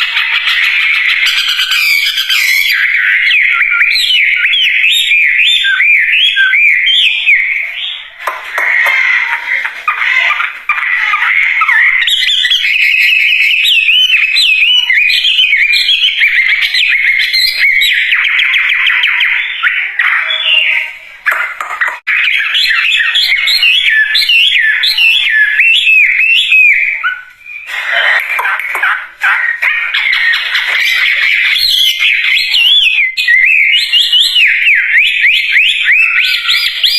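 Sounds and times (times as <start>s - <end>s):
bird singing: 0.0s - 36.9s.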